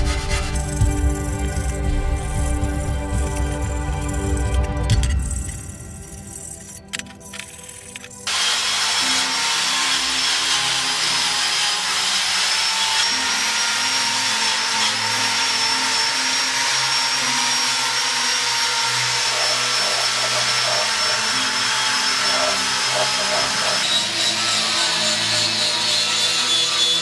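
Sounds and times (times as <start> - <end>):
electric power tool whining: 0.0 - 27.0.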